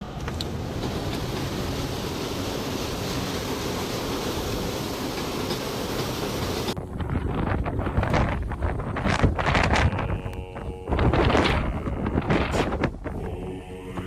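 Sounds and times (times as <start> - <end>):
blizzard wind rushing: 0.1 - 14.0.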